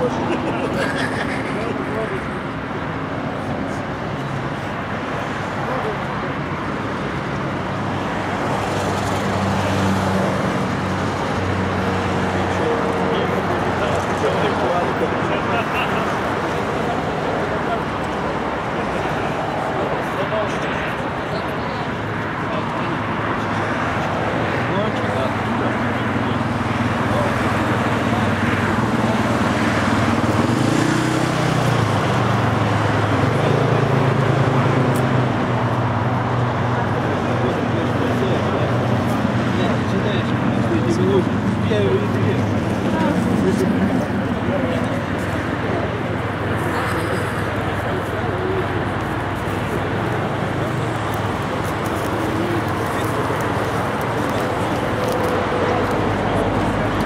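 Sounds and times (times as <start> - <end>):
low engine hum: 0.0 - 57.0
road traffic noise: 0.0 - 57.0
vehicle engines running: 0.0 - 57.0.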